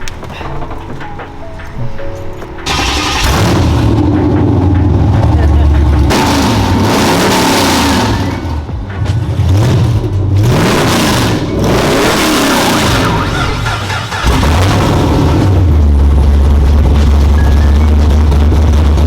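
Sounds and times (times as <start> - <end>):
steady deep hum: 0.0 - 13.6, 14.2 - 19.0
car engine revving: 2.6 - 19.0.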